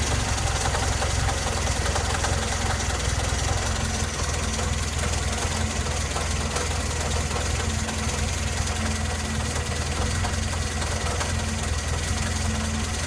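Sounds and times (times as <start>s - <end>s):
engine idling with knocking: 0.0s - 13.0s.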